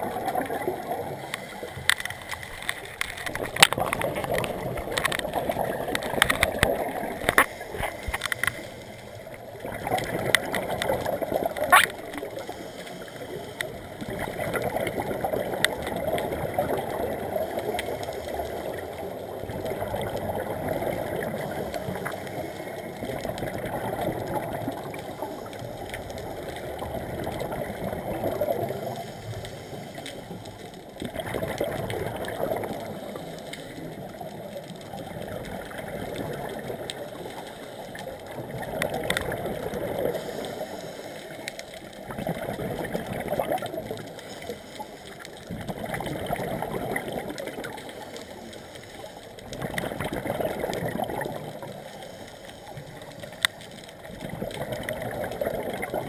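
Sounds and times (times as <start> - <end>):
regulator bubbles gurgling: 0.0 - 56.0.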